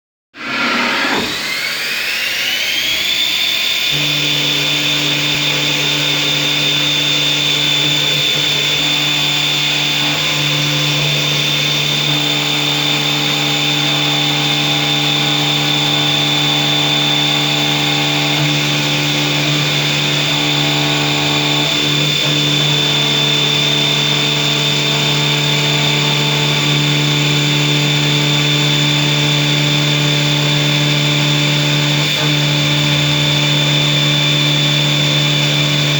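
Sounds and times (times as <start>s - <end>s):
machine spindle whine: 0.4s - 35.9s.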